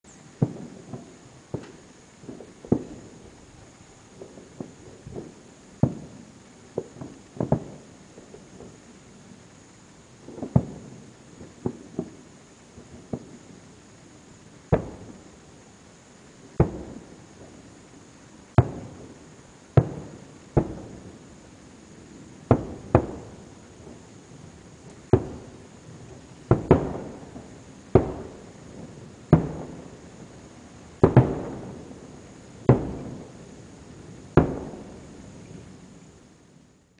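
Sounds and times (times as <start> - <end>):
distant fireworks bursting: 0.1 - 36.8.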